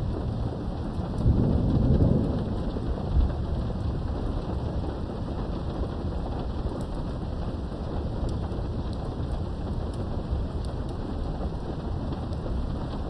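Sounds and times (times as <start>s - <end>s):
low rumble of thunder: 0.0s - 13.0s
muffled rain through window: 0.0s - 13.0s
raindrops ticking: 0.0s - 13.0s.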